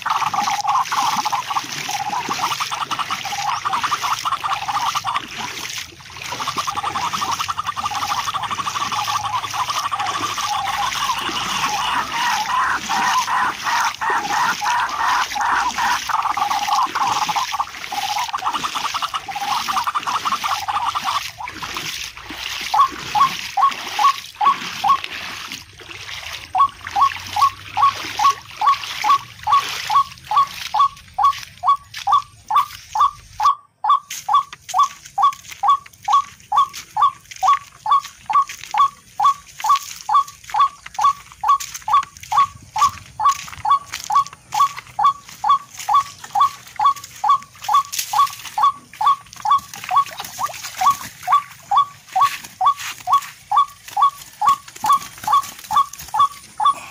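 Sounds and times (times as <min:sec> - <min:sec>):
bird calls: 0:00.0 - 0:05.2, 0:06.4 - 0:21.6, 0:22.7 - 0:25.0, 0:26.5 - 0:56.9.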